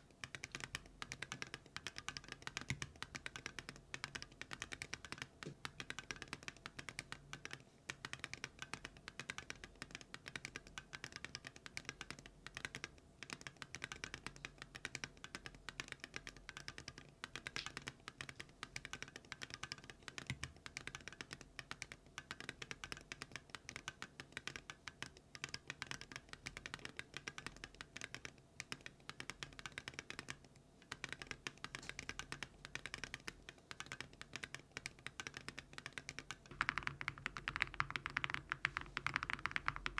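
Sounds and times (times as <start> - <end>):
mechanical keyboard typing: 0.2 - 39.9.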